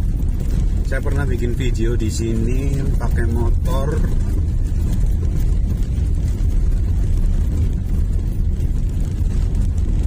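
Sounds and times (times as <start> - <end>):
car cabin engine and road rumble: 0.0 - 10.0.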